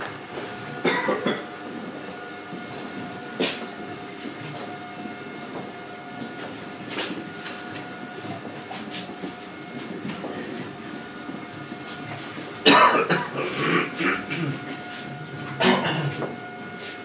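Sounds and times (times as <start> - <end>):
faint held hum: 0.0 - 17.0.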